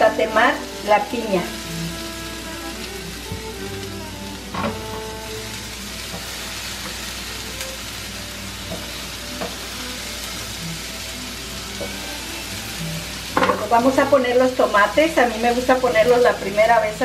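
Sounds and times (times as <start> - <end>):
fruit sizzling on hot griddle: 0.0 - 17.0.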